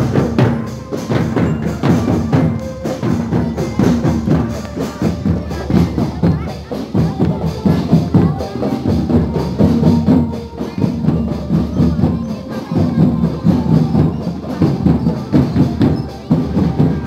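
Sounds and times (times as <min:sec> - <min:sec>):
parade music with percussion beat: 0:00.0 - 0:17.0.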